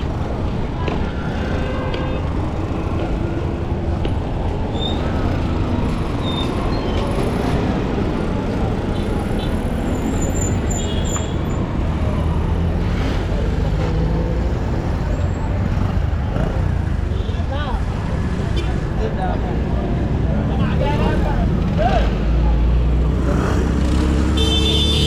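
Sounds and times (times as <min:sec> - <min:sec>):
traffic rumble: 0:00.0 - 0:25.0.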